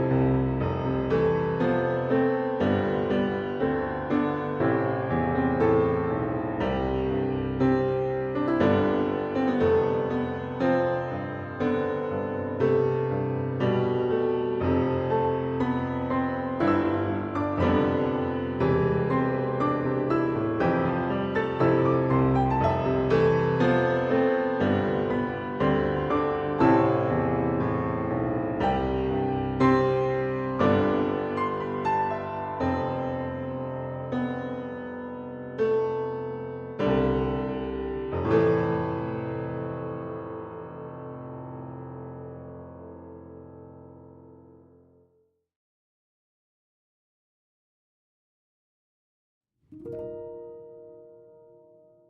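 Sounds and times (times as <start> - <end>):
piano background music: 0.0 - 45.0, 49.7 - 52.0.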